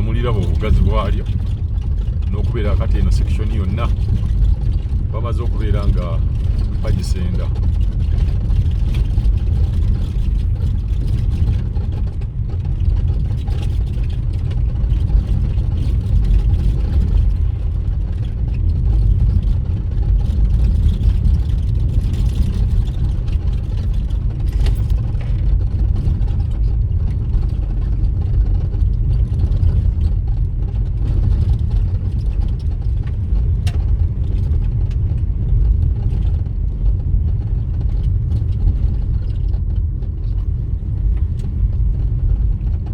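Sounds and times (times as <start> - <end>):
vehicle rumble on road: 0.0 - 42.9.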